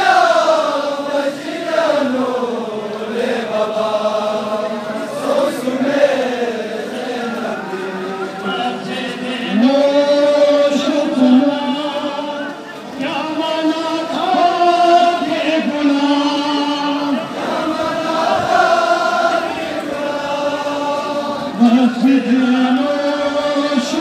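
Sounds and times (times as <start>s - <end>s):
crowd of men chanting: 0.0s - 24.0s.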